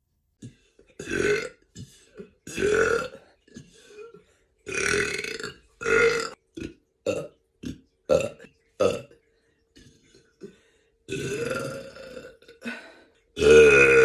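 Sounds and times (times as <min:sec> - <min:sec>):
person burping: 0:00.4 - 0:09.2, 0:09.8 - 0:12.8, 0:13.4 - 0:14.0.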